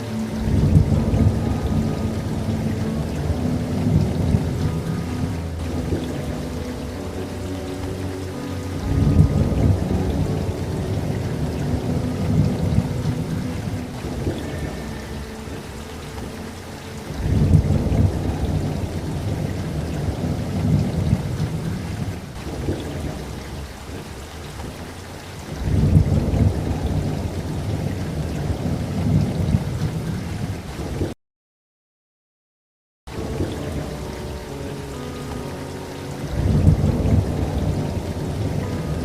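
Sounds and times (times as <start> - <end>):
thunder rumbling: 0.0 - 31.1, 36.2 - 39.0
steady rainfall: 0.0 - 31.2, 33.1 - 39.0.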